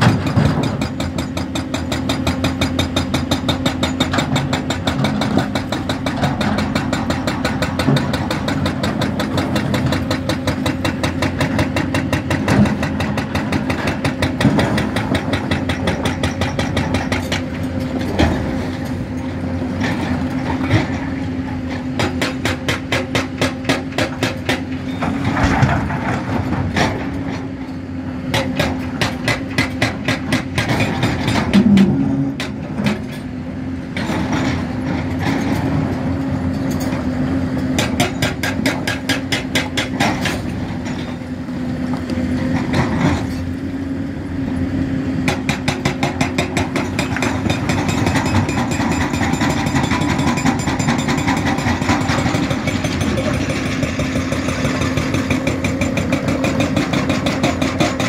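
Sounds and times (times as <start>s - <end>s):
excavator diesel engine clatter: 0.0s - 58.0s.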